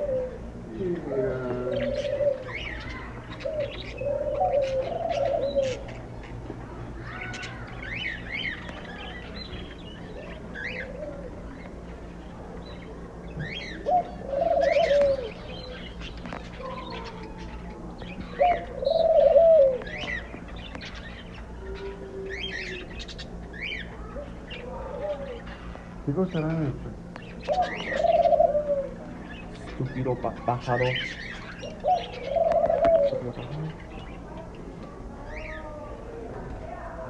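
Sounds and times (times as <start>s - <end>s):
doves cooing: 0.0s - 37.0s.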